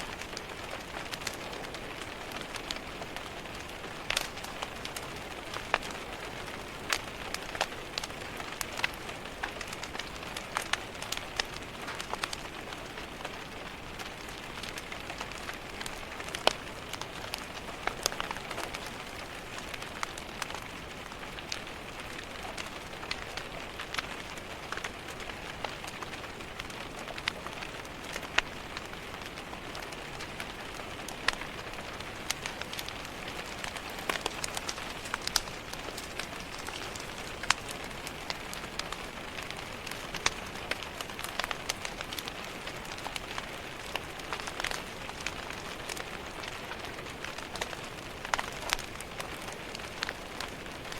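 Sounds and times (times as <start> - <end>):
rain tapping on a window: 0.0 - 50.9
wood fire crackling: 0.0 - 50.9.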